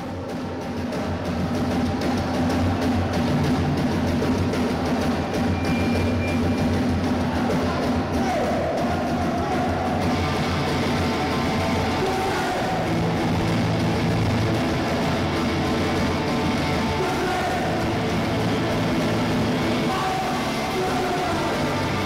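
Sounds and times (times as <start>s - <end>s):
punk band playing live: 0.1s - 22.0s.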